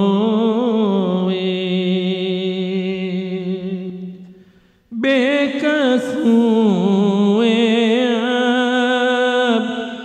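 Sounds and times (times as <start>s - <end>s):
man chanting: 0.0s - 4.3s, 4.9s - 10.0s.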